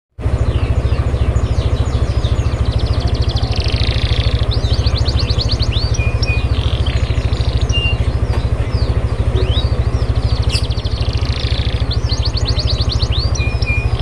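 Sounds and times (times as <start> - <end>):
loud low throb: 0.2 - 14.0
songbird singing trills: 0.2 - 14.0.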